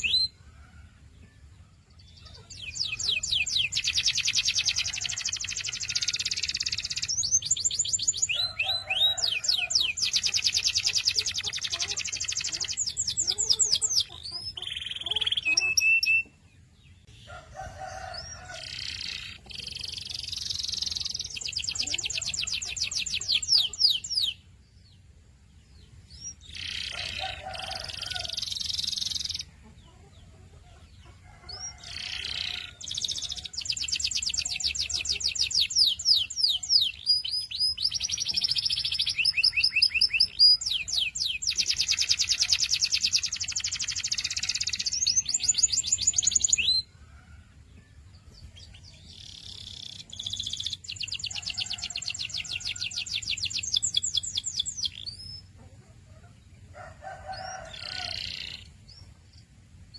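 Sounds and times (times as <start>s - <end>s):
canary singing: 0.0s - 0.4s, 2.0s - 24.6s, 25.8s - 47.4s, 48.2s - 55.6s, 56.2s - 59.9s.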